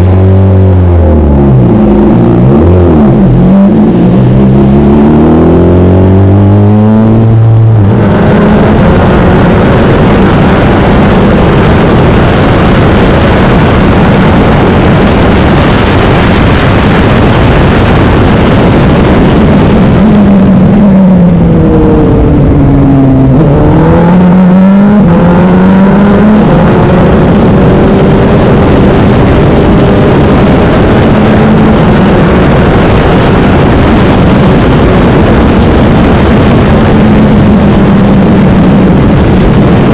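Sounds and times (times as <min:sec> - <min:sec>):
loud rushing noise: 0:00.0 - 0:39.9
race car engine at high revs: 0:00.0 - 0:39.9.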